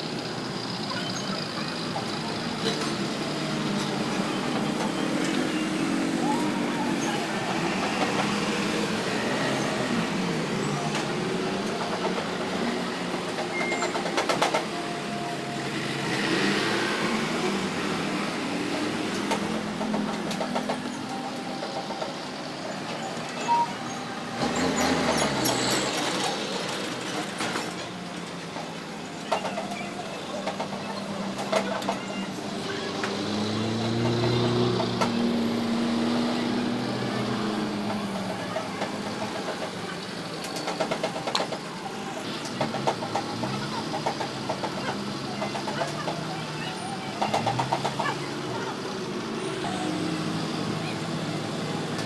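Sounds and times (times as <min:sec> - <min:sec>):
traffic noise: 0:00.0 - 0:52.0.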